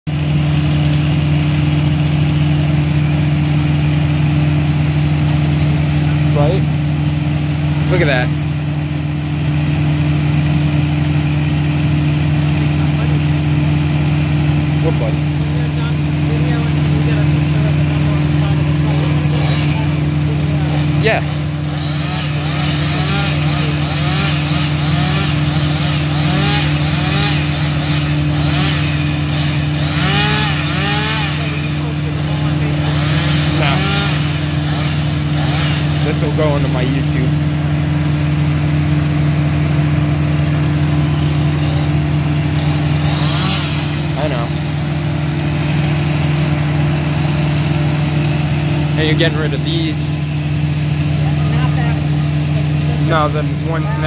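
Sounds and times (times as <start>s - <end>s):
engine idling: 0.1s - 54.0s
motor humming: 7.2s - 54.0s.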